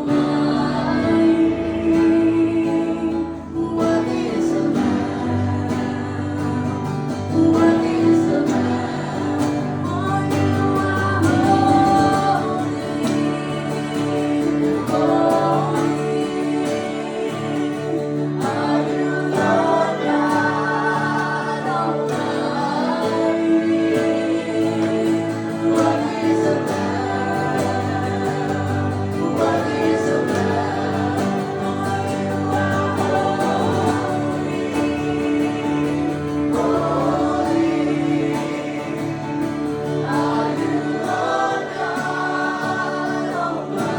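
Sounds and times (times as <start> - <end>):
acoustic guitar: 0.0 - 43.9
person singing worship song: 0.0 - 43.9.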